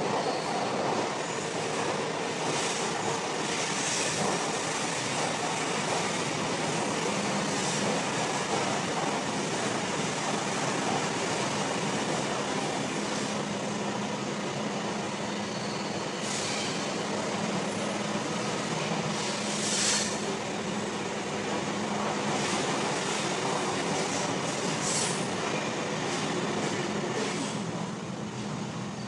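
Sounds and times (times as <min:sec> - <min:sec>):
train rumble and hum: 0:00.0 - 0:29.0.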